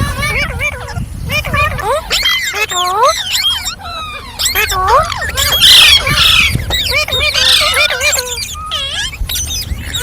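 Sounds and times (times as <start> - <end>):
parrots harsh squawks: 0.0 - 10.0
parrots whistled calls: 0.0 - 10.0.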